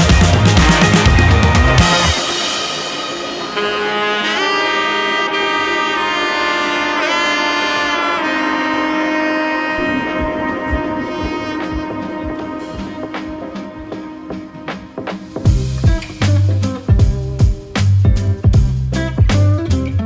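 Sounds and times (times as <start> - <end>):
held brass or saxophone notes: 0.0 - 17.5
music beat: 0.0 - 20.0.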